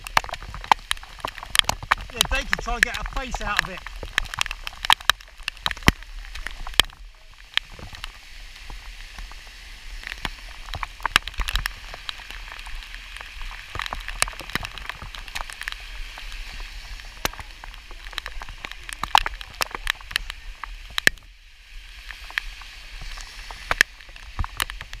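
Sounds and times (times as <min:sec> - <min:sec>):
heavy rain falling: 0:00.0 - 0:25.0
raindrops tapping near microphone: 0:00.0 - 0:25.0.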